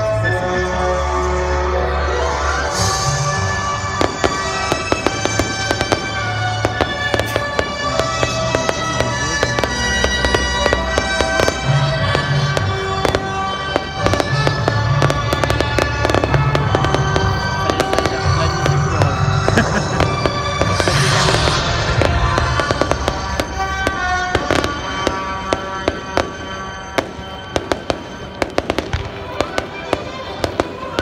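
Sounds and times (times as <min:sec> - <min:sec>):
music playing: 0:00.0 - 0:31.0
fireworks bangs and crackles: 0:01.9 - 0:31.0.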